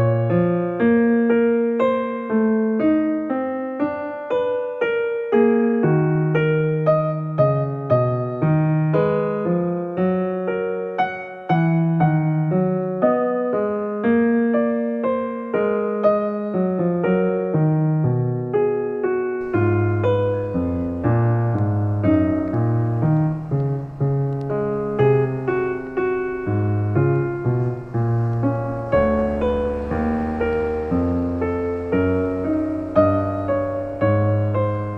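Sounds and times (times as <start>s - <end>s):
calm slow piano music: 0.0s - 34.9s.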